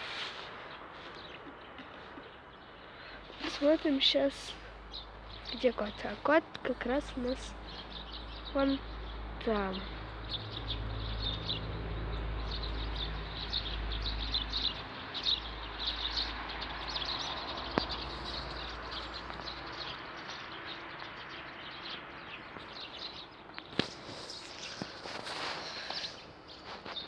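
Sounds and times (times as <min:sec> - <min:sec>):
small songbirds chirping: 0:00.0 - 0:27.0.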